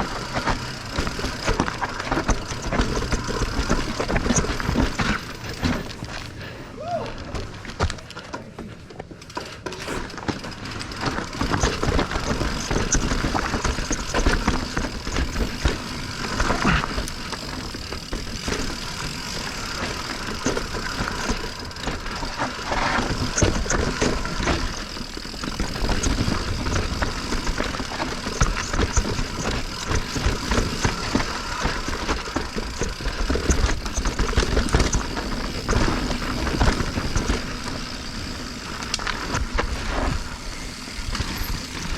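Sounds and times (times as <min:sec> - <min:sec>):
mountain bike rattling over rocks: 0:00.0 - 0:06.5, 0:07.1 - 0:41.9
tyre noise: 0:00.0 - 0:41.9.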